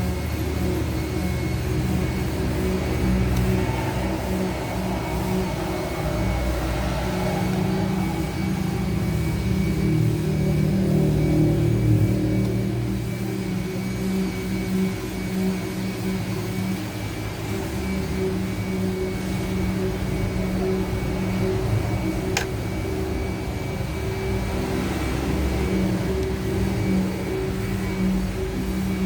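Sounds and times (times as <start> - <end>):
mechanical drone with low hum: 0.0 - 29.0.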